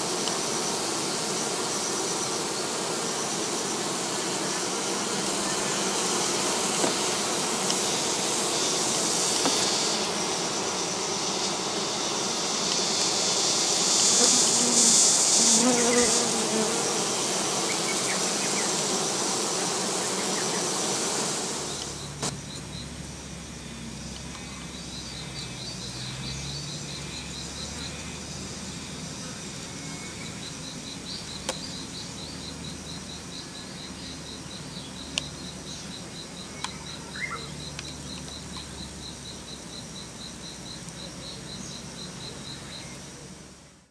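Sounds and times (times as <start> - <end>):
single bee droning past: 0.0 - 43.3
bees buzzing: 0.0 - 43.5
high insect chirping trill: 0.0 - 43.7.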